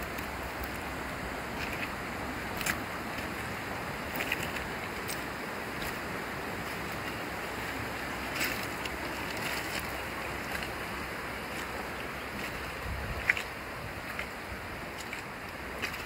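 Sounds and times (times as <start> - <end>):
creek running over stones: 0.0 - 16.0.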